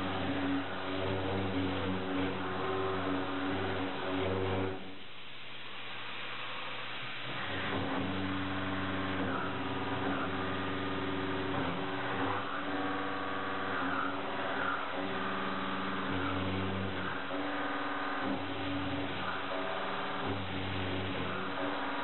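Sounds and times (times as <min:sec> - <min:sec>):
milling cutter humming: 0:00.0 - 0:04.9, 0:07.3 - 0:22.0.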